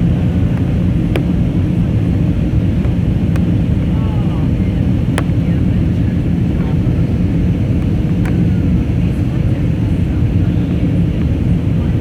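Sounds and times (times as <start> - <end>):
airliner cabin roar: 0.0 - 12.0
murmur of passenger voices: 0.0 - 12.0.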